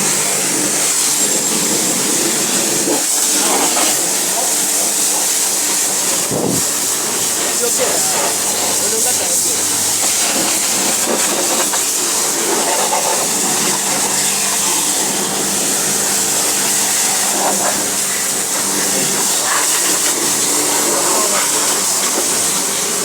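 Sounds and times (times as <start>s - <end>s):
pressure washer spraying water: 0.0s - 23.0s.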